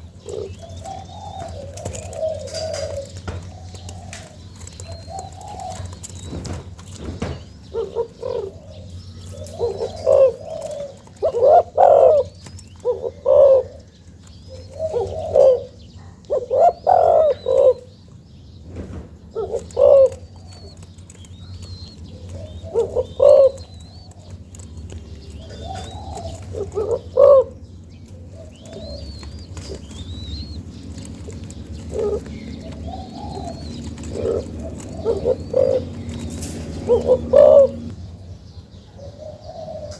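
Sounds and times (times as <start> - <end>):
dove cooing: 0.0 - 18.0, 19.2 - 39.9
small birds chirping: 0.0 - 39.9.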